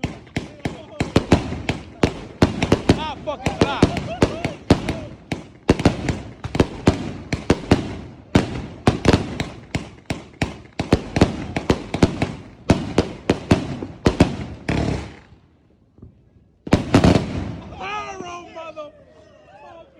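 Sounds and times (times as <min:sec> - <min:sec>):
firework bangs: 0:00.0 - 0:18.4.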